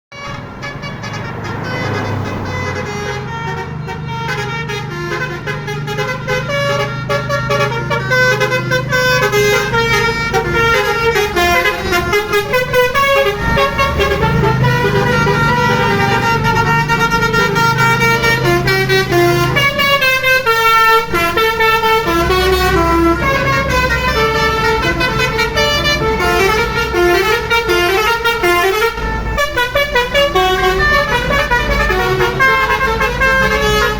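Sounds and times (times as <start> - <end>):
bus horn playing stepped notes: 0.1 - 33.9
vehicle engine rumble: 0.1 - 33.9.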